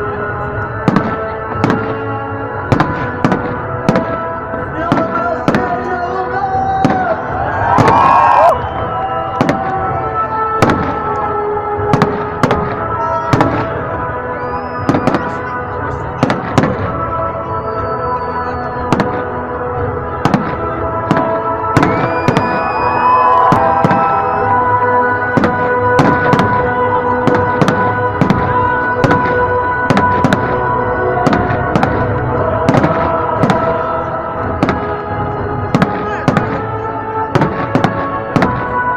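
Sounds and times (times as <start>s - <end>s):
music with sustained notes: 0.0s - 38.9s
fireworks bursting with bangs: 0.8s - 5.9s, 6.8s - 11.2s, 11.8s - 13.9s, 14.5s - 15.5s, 16.2s - 17.0s, 17.8s - 19.4s, 20.2s - 38.9s.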